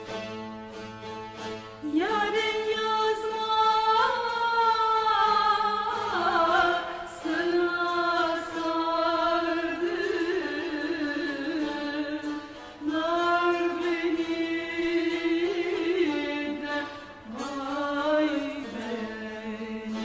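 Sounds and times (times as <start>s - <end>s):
woman singing folk song: 1.6s - 20.0s.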